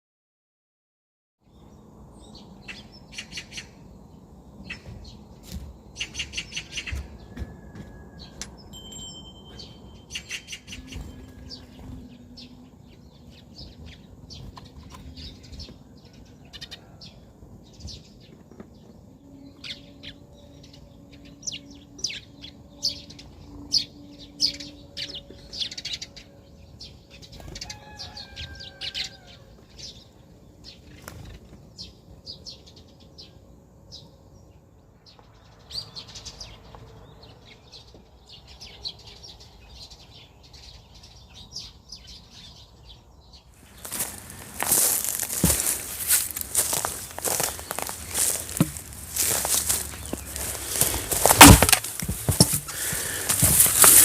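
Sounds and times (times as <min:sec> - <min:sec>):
small birds chirping: 0:09.5 - 0:54.0.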